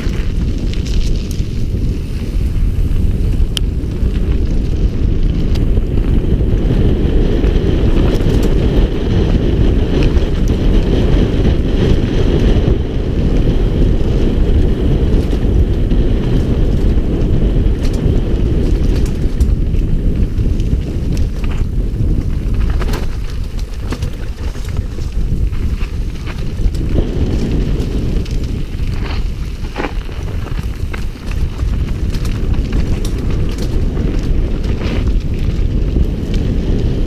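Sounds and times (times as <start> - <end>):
bike clicks and rattles: 0.0 - 37.0
wind buffeting microphone: 0.0 - 37.0.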